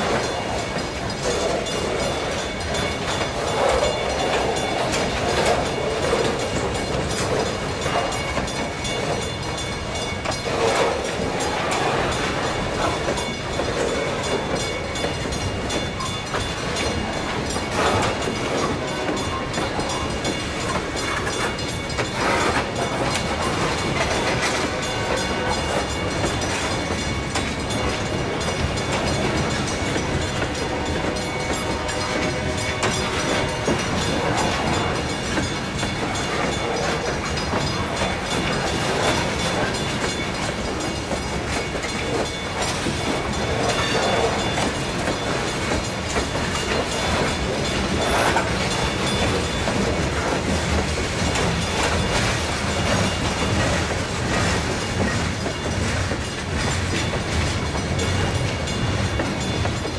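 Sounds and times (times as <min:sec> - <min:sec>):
steel wheels rumbling on rail: 0:00.0 - 0:59.9
wheels clacking over rail joints: 0:00.0 - 0:59.9.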